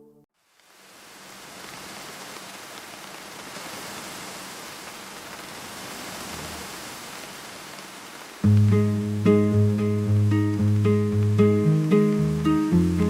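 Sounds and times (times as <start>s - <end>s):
steady hiss: 0.4s - 13.0s.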